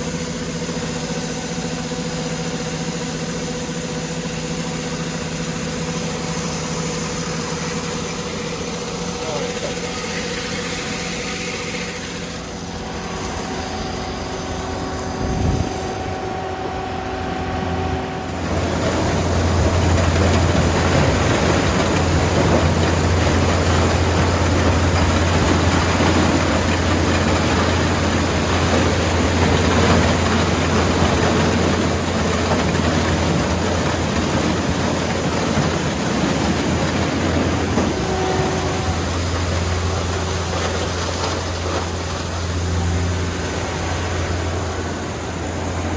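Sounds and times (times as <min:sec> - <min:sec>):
harvester engine running: 0:00.0 - 0:45.9.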